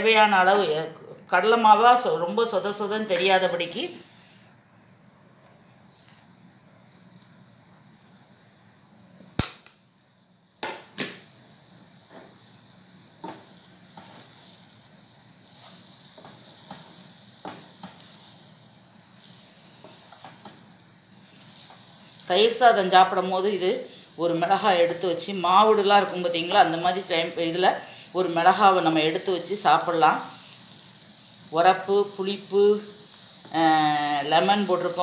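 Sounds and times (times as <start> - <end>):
chillies sizzling in oil: 0.0 - 35.0.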